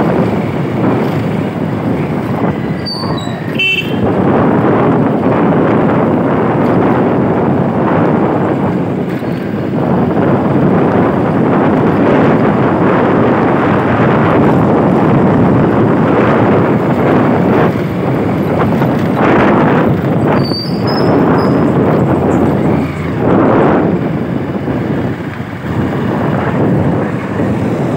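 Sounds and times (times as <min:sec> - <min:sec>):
vehicle road and engine noise: 0:00.0 - 0:27.9
wind on microphone: 0:00.0 - 0:27.9.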